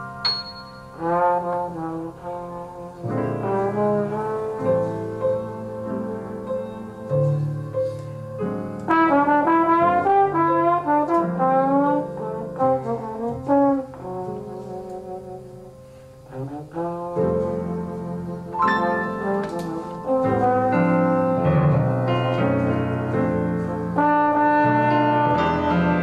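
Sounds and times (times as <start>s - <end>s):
trombone jazz solo: 0.8s - 8.0s, 8.8s - 26.0s.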